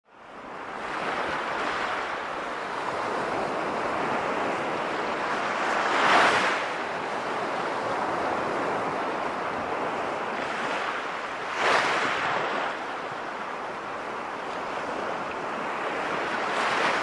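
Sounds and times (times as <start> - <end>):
sea waves surf: 0.1 - 17.0.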